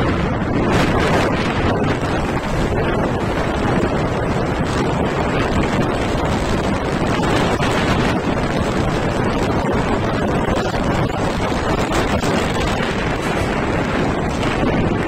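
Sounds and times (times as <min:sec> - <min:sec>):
vehicle rumble: 0:00.0 - 0:15.0
wind buffeting microphone: 0:00.0 - 0:15.0.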